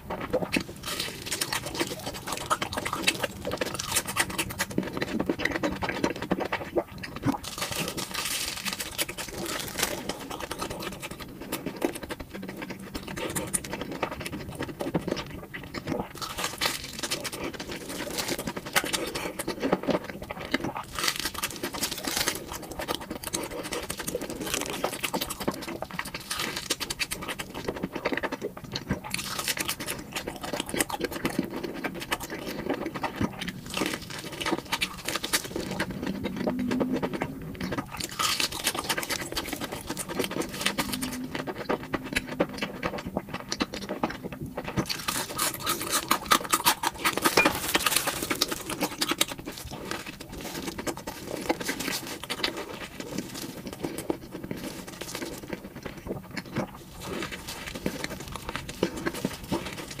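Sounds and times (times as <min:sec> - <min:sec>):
chewing crunchy food: 0:00.0 - 1:00.0.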